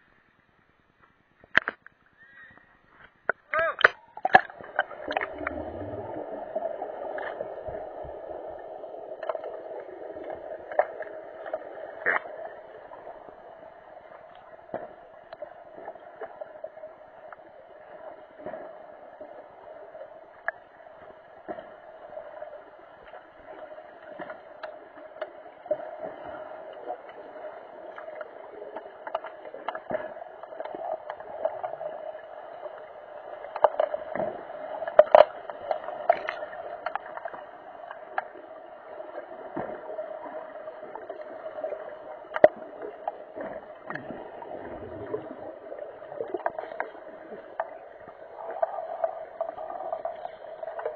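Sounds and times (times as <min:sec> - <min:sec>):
muffled underwater hum: 0:04.1 - 0:50.9.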